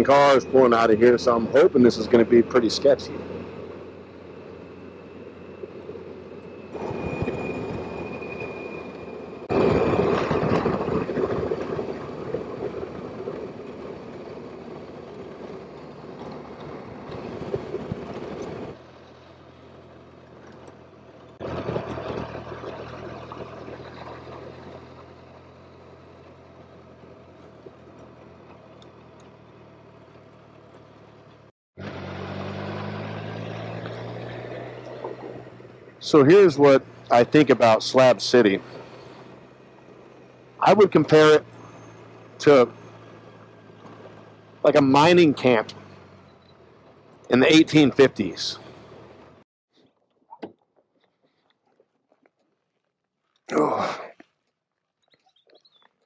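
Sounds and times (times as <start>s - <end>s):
motorcycle engine: 0.0s - 49.4s.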